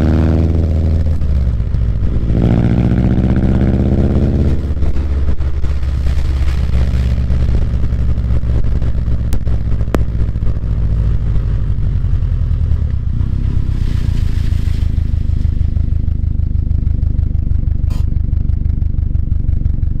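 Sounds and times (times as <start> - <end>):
car exhaust idling: 0.0 - 20.0.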